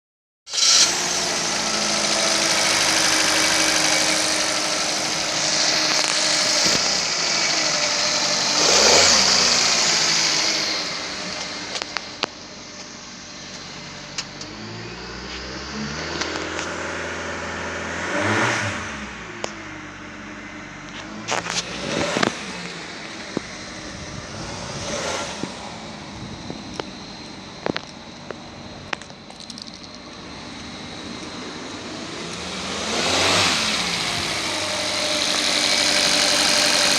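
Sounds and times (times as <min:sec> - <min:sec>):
car engine revving and idling: 0:00.5 - 0:36.9.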